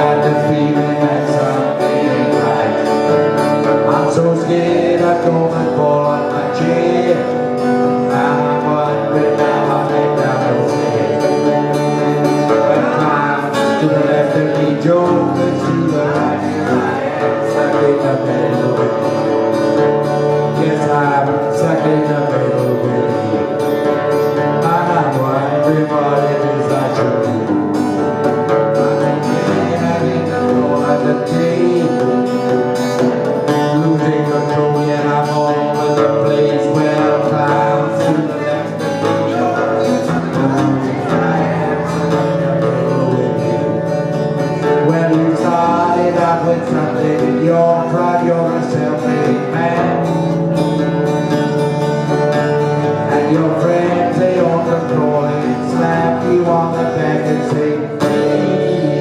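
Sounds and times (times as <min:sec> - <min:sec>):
person singing: 0:00.0 - 0:59.0
strummed acoustic guitar: 0:00.0 - 0:59.0.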